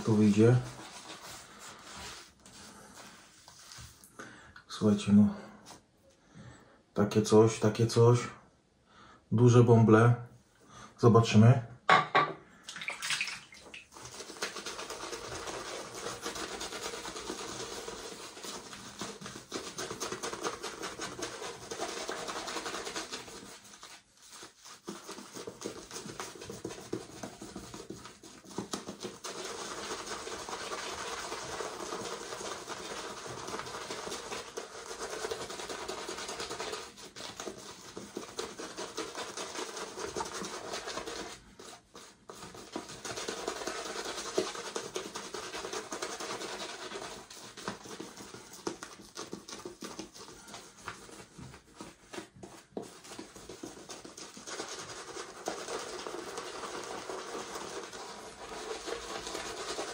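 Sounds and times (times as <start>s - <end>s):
shaving brush swishing lather: 0.0s - 4.1s, 13.9s - 59.9s.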